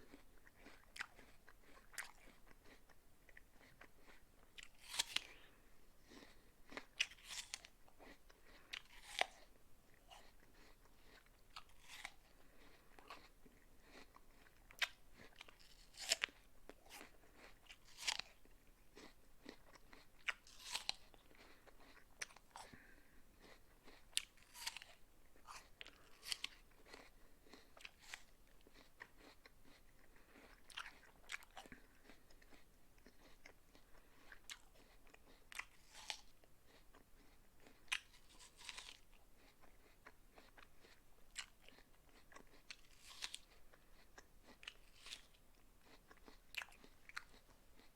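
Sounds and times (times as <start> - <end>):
person crunching an apple: 0.0 - 47.9.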